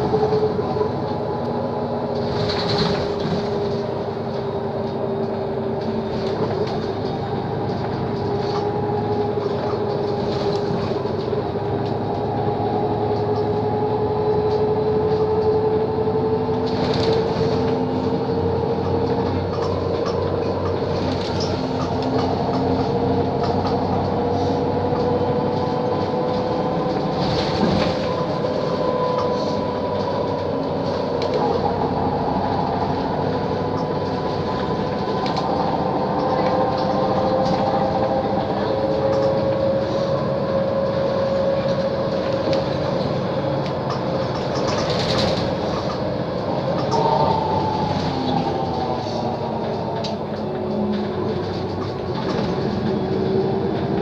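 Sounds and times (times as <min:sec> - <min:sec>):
bus engine whine: 0:00.0 - 0:54.0.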